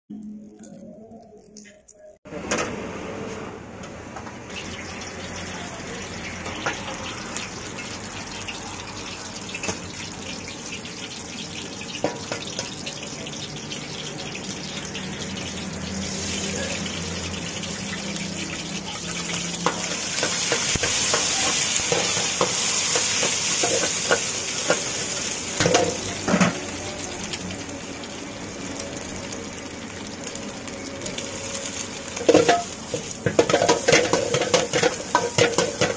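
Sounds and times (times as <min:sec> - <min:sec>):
oil sizzling in a wok: 0:04.5 - 0:35.9.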